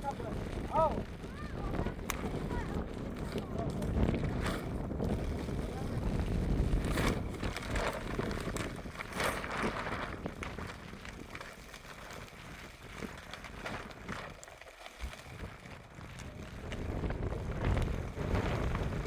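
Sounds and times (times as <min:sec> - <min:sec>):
strong wind gusting over microphone: 0:00.0 - 0:14.4, 0:15.0 - 0:19.0
clicks and rustles: 0:00.0 - 0:19.0.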